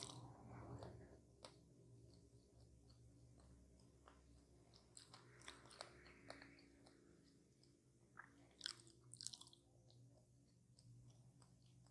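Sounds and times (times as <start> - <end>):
crunchy chewing of pie crust: 0.0 - 11.9.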